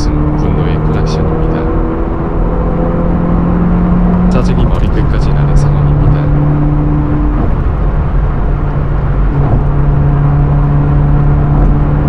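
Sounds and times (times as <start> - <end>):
car engine hum: 0.0 - 12.0
road and wind noise: 0.0 - 12.0.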